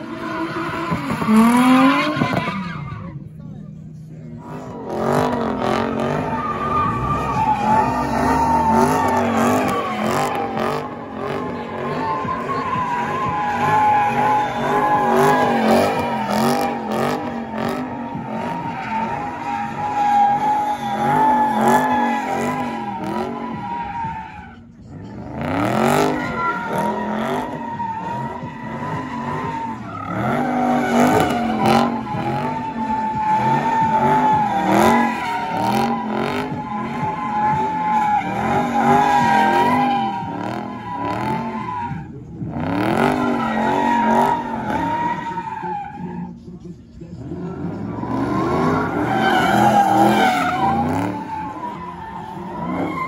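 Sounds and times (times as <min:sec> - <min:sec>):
car engine revving: 0:00.0 - 0:53.0
tyres squealing: 0:04.4 - 0:53.0.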